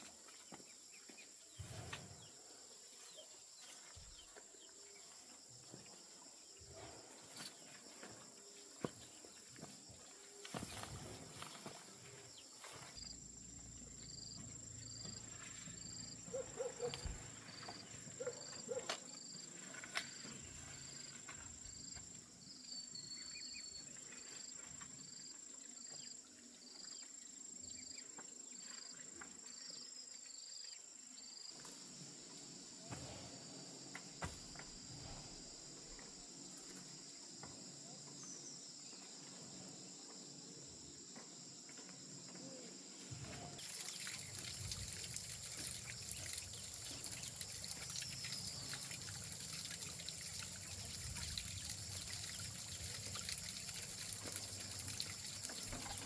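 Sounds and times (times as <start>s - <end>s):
insects trilling: 0.0s - 56.0s
regular insect chirp: 0.0s - 56.0s.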